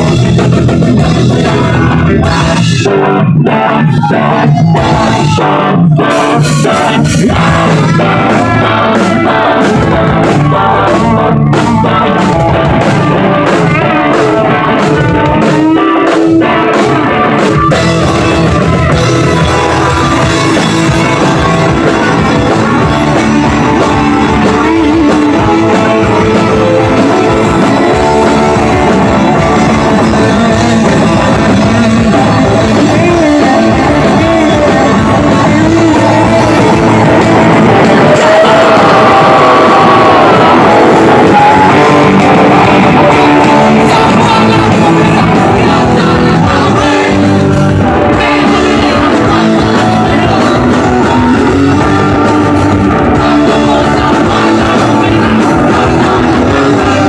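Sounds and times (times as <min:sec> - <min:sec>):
bass guitar: 0:00.0 - 0:57.0
distorted electric guitar: 0:00.0 - 0:57.0
drums: 0:00.0 - 0:57.0
person singing: 0:00.0 - 0:57.0.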